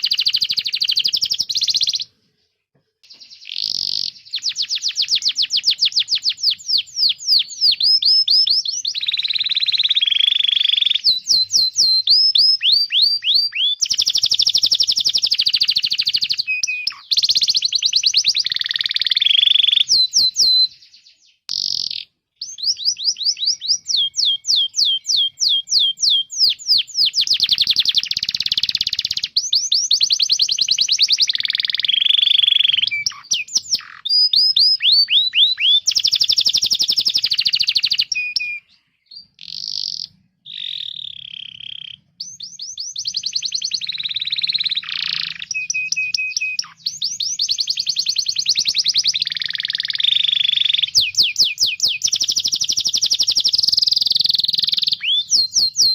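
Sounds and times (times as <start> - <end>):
canary singing: 0.0 - 2.2, 3.0 - 55.9.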